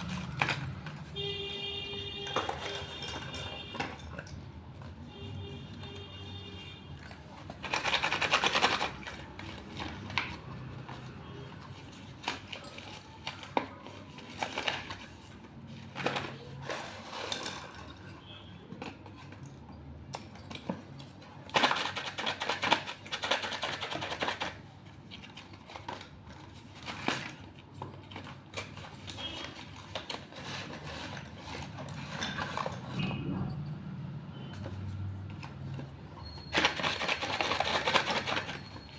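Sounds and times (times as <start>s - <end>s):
pencils clattering rapidly: 0.0s - 4.7s, 7.0s - 19.6s, 20.3s - 33.2s, 34.8s - 38.9s
slate pencils clicking and tapping: 0.0s - 5.1s, 5.7s - 35.9s, 36.5s - 38.9s.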